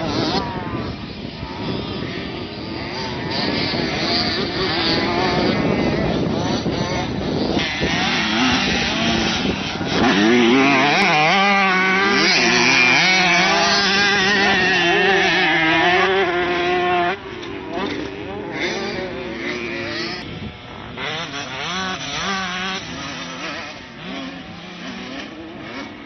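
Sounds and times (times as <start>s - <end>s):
motocross motorcycle engines revving: 0.0s - 26.0s.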